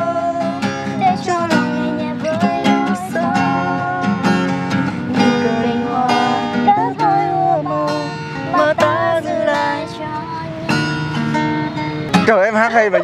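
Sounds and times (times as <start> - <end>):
woman singing: 0.0 - 11.2
acoustic guitar strumming: 0.0 - 13.0.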